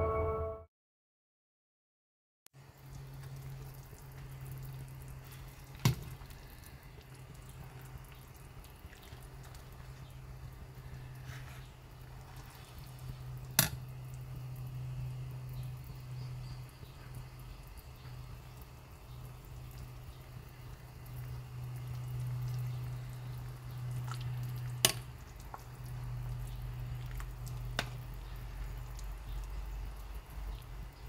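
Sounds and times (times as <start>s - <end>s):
broth simmering in a pot: 2.6s - 31.0s.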